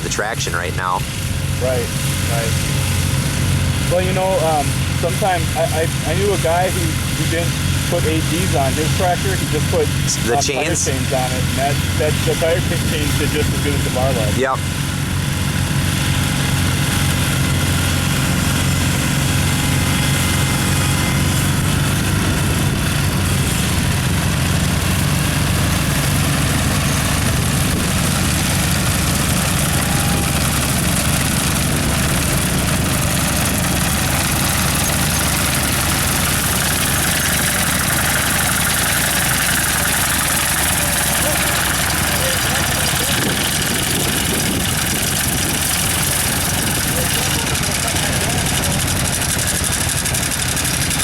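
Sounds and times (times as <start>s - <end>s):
garden tractor engine running: 0.0s - 51.0s.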